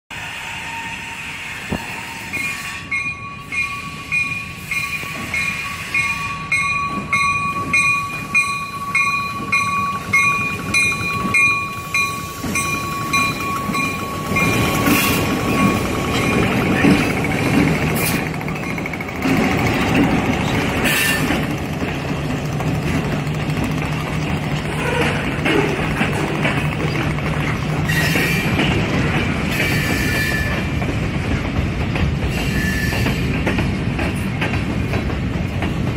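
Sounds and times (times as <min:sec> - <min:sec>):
diesel locomotives rumbling: 0:00.1 - 0:35.9
train wheels clanking: 0:00.9 - 0:35.9.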